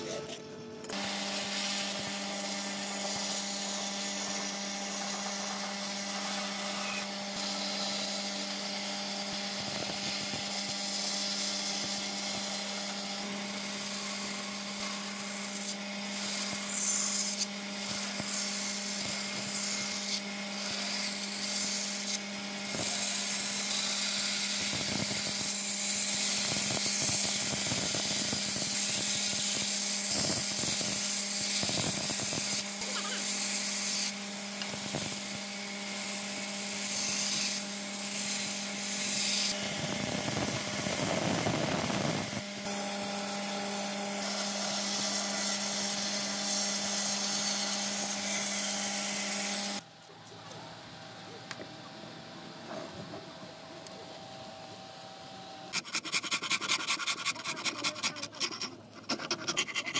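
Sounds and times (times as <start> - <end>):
bandsaw motor hum: 0.0 - 59.9
saw blade cutting wood hiss: 0.9 - 49.8.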